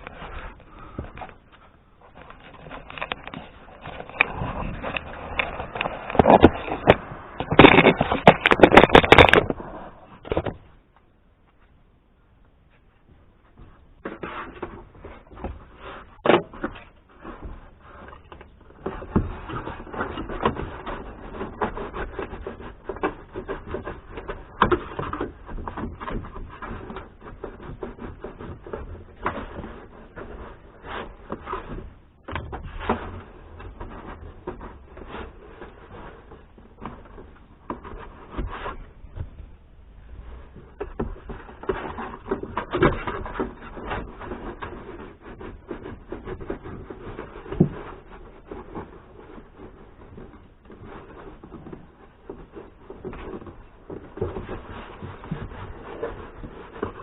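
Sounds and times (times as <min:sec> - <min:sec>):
hands rubbing and scraping trim: 0:00.0 - 0:57.0.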